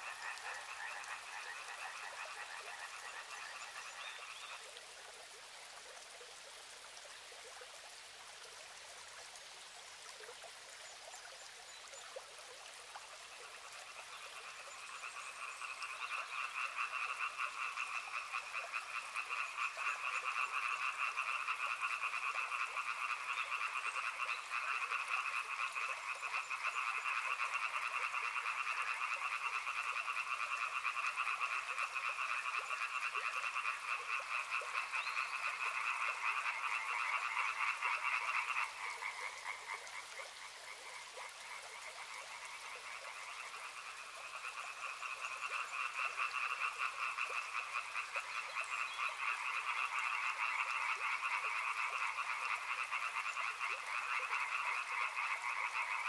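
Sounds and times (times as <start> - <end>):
frogs calling in pulsed trills: 0.0 - 4.6, 13.2 - 56.0.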